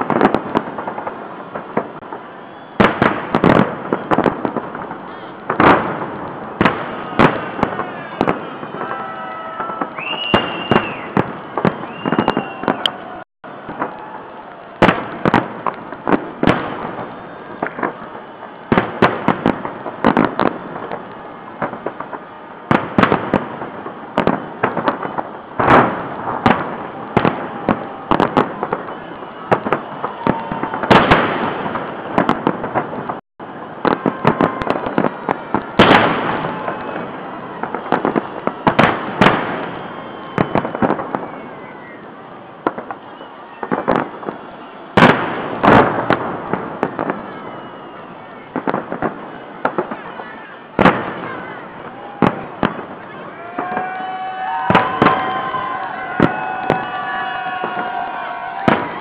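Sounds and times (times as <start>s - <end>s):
faint firework whistles: 0.0s - 59.0s
fireworks bangs and crackling: 0.0s - 59.0s
heavy firework booms: 0.0s - 59.0s.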